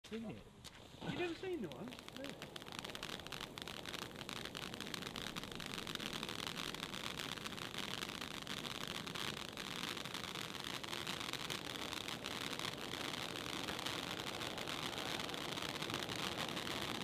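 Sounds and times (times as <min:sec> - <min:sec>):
firework fountain hissing and crackling: 0:00.0 - 0:17.0.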